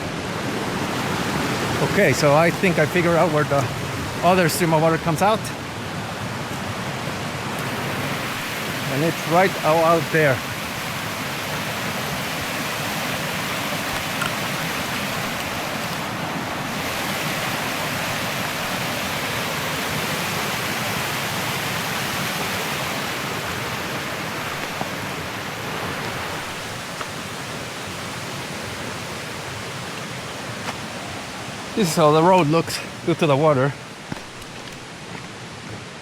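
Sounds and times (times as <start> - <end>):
stream rushing water: 0.0 - 36.0.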